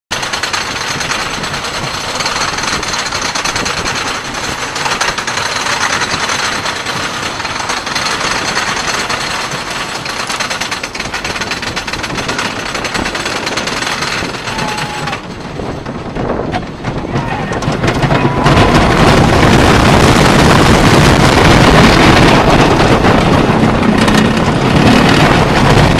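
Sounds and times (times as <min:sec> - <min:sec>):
roller coaster chain lift clatter: 0:00.1 - 0:25.9.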